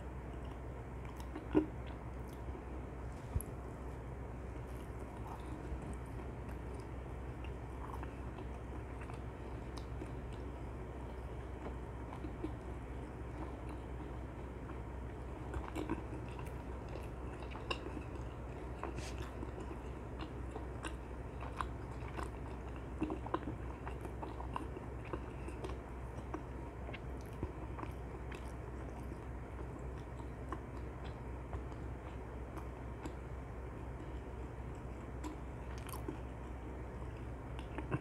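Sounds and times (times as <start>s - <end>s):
chewing crunchy fried chicken: 0.0s - 38.0s.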